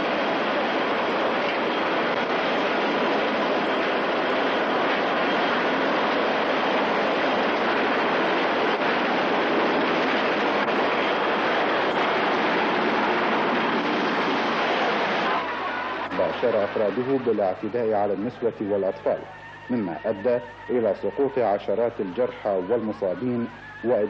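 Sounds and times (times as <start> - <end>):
loud steady rushing noise: 0.0 - 24.0.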